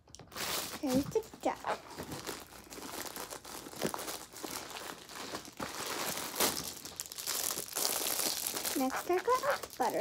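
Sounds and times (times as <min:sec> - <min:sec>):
plastic bag crinkling: 0:00.1 - 0:10.0.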